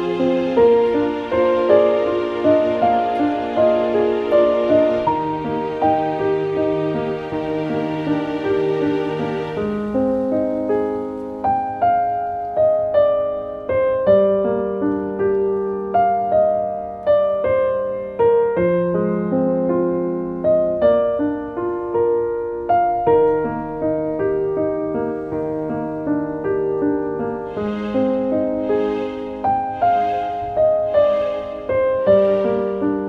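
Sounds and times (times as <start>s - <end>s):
slow piano melody: 0.0s - 33.0s.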